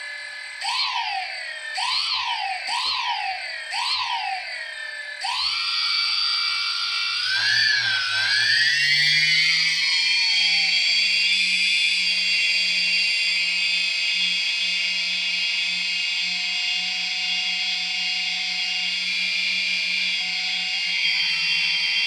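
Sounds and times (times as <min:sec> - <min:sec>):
motor high-pitched whine: 0:00.0 - 0:22.0.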